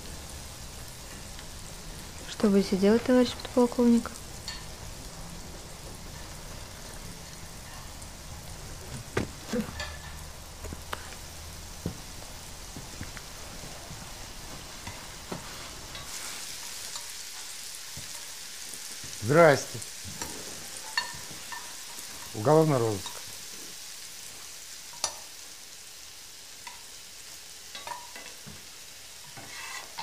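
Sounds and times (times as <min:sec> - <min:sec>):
food frying in a pan: 0:00.0 - 0:30.0.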